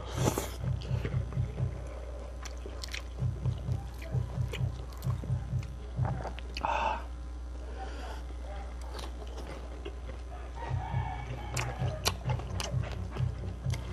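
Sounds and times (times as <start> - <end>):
chewing food: 0.1 - 6.7, 8.3 - 13.9.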